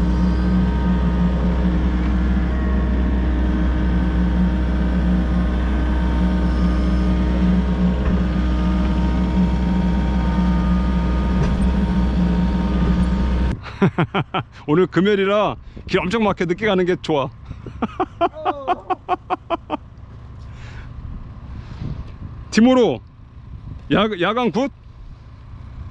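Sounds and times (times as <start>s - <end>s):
diesel engine droning: 0.0s - 25.9s.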